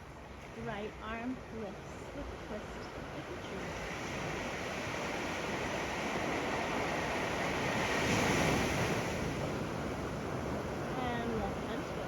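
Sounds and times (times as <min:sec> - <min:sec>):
ocean waves on shore: 0:00.0 - 0:12.0.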